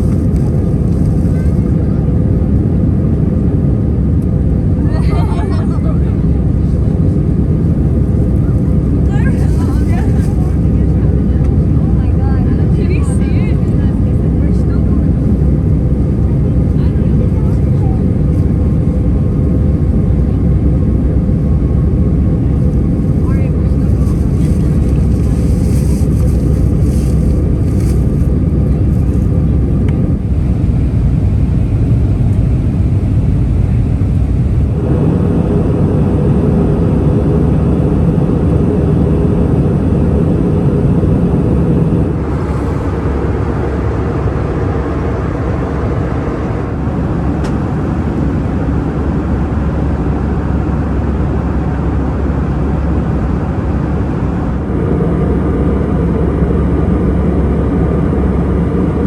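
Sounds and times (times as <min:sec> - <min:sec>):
jet engines and airflow rushing: 0:00.0 - 0:59.0.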